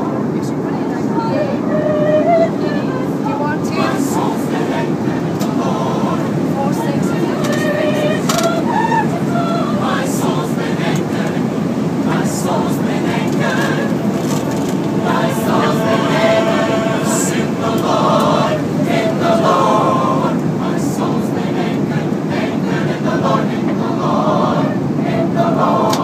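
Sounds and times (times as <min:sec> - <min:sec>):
airliner cabin drone: 0:00.0 - 0:26.0
choir singing a cappella: 0:00.0 - 0:26.0.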